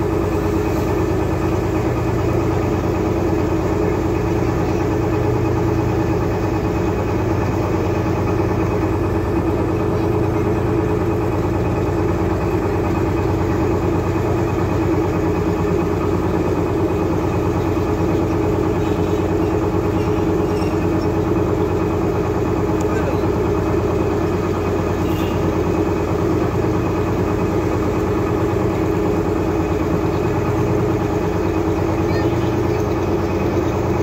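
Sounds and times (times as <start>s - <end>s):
motorboat engine running: 0.0s - 34.0s.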